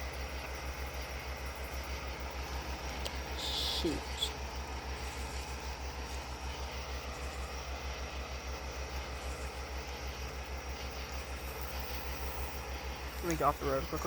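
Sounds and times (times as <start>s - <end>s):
engine idling: 0.0s - 14.0s
faint hiss: 0.2s - 14.0s.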